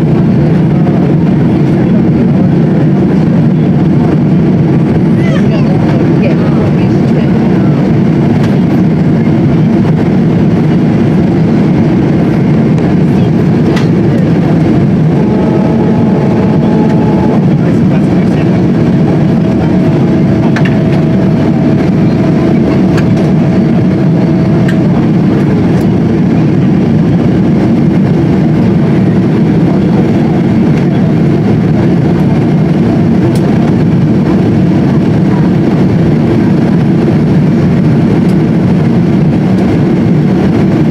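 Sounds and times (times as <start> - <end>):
jet engines and airflow drone: 0.0 - 40.9.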